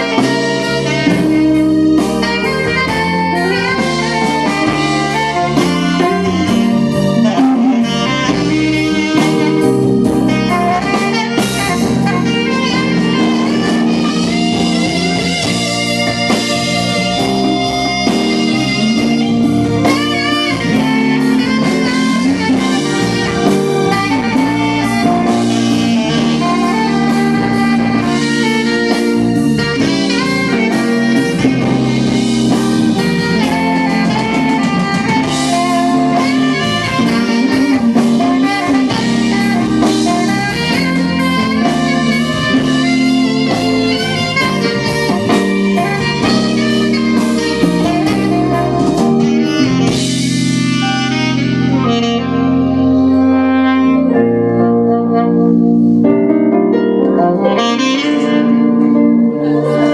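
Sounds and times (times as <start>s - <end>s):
live band playing a ballad: 0.0s - 59.9s
saxophone melody: 0.0s - 59.9s.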